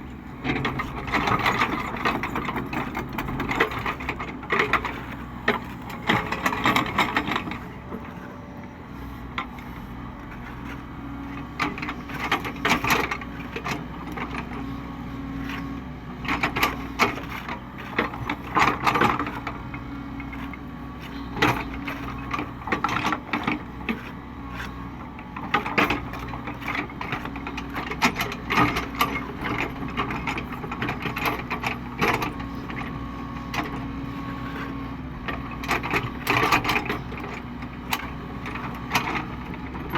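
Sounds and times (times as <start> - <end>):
diesel engine running: 0.0 - 39.9
excavator knocking and clattering: 0.1 - 8.5, 10.2 - 39.9.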